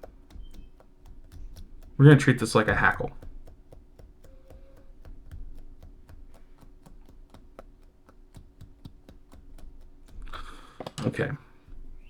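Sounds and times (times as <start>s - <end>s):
brush scratching through fur: 0.0s - 10.0s.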